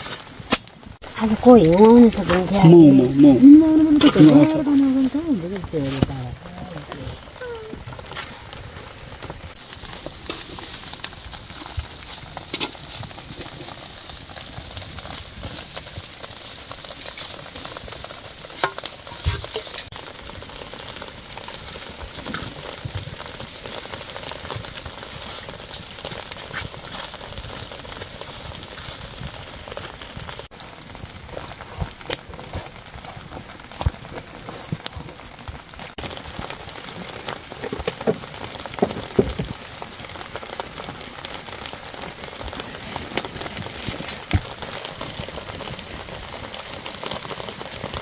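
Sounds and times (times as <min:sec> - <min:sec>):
rain hissing on roof: 0:00.0 - 0:48.0.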